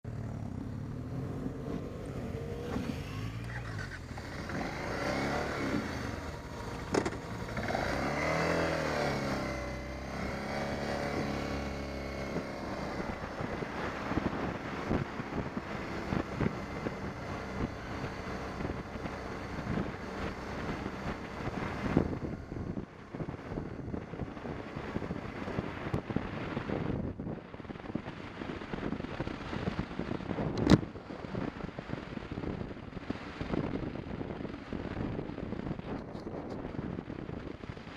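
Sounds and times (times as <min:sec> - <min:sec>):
motorcycle engine running: 0:00.0 - 0:37.9
rough rumble with knocks: 0:01.2 - 0:32.1.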